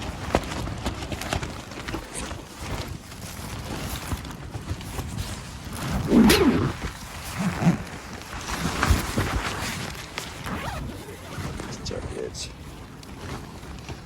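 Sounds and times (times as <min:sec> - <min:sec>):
rain tapping on tent: 0:00.0 - 0:14.0
tent fabric flapping: 0:00.0 - 0:14.0
wind: 0:00.0 - 0:14.0.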